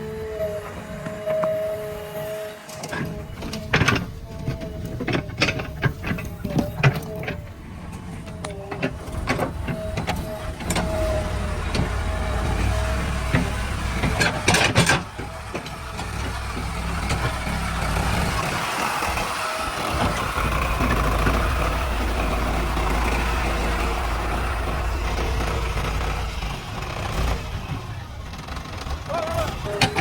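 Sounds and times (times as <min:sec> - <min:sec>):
backhoe engine running: 0:00.0 - 0:30.0.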